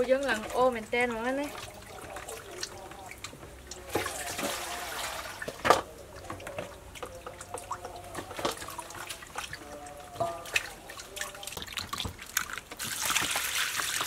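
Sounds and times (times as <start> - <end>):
water pouring into steel bowl: 0.0 - 14.0
water splashing and dripping: 0.0 - 14.0.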